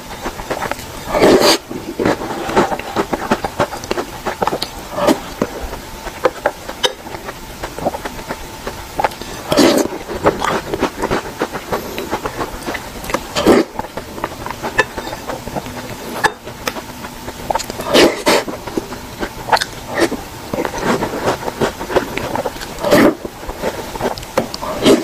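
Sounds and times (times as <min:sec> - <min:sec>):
chewing chocolate: 0:00.0 - 0:25.0.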